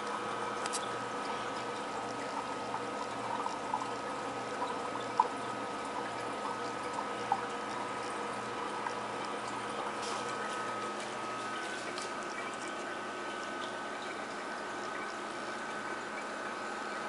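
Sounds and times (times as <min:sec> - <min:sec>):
pump hum: 0:00.0 - 0:17.0
water trickling and splashing: 0:00.0 - 0:17.0.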